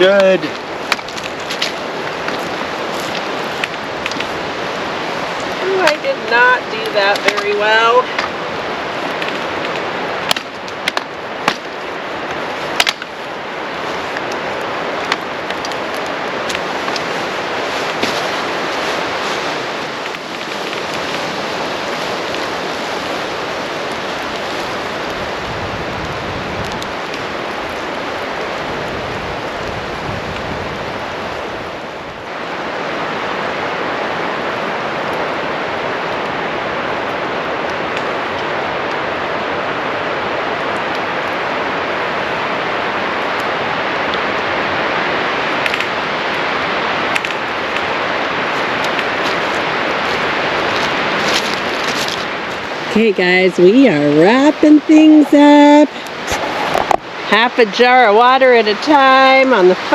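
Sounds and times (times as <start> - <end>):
steady rushing noise: 0.0 - 59.9.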